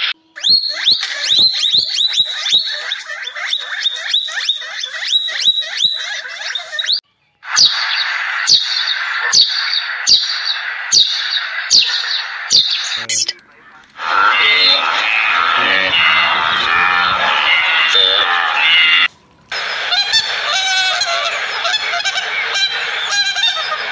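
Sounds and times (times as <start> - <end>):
background bird chatter: 0.0 - 23.9
rapid high chirps: 0.0 - 23.9
sparrows chirping: 0.3 - 7.0, 7.6 - 23.9.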